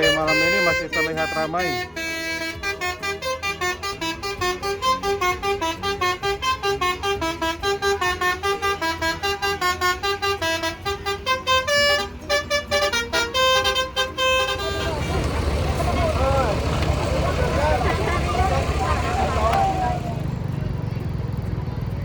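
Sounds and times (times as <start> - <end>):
musical bus horn melody: 0.0 - 20.5.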